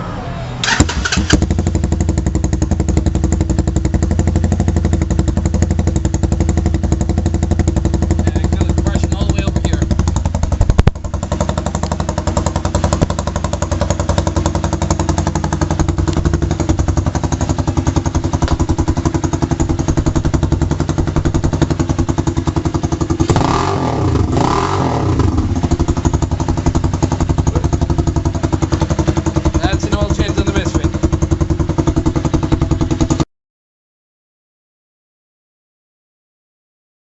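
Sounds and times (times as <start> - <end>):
engine revving: 0.0 - 33.2
motorcycle engine idling: 0.7 - 33.2.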